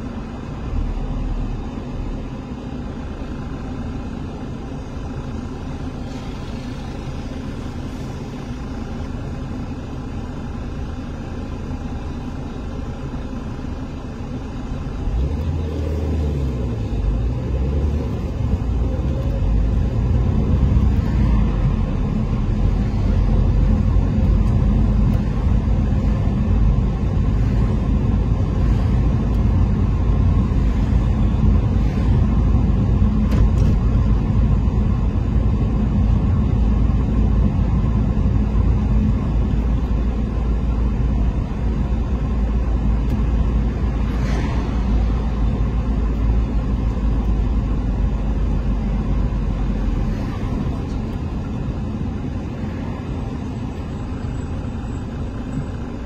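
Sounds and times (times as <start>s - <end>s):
moving car road rumble: 0.0s - 56.0s.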